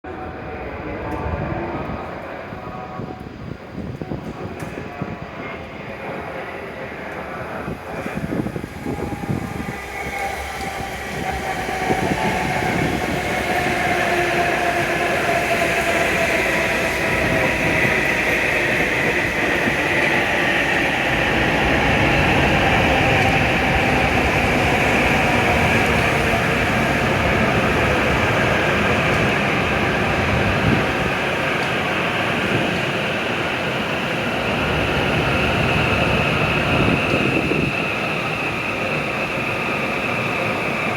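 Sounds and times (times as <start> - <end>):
steady train whine: 0.1 - 40.9
train running noise: 0.1 - 40.9.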